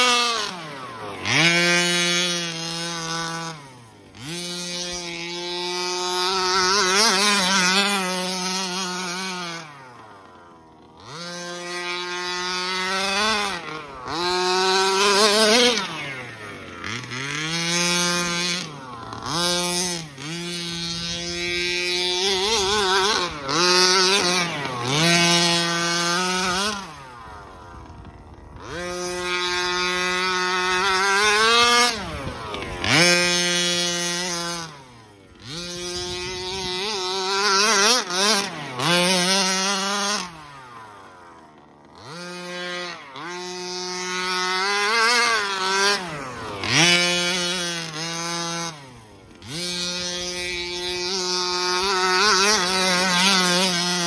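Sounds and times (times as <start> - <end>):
rc buggy engine whining: 0.0 - 54.0.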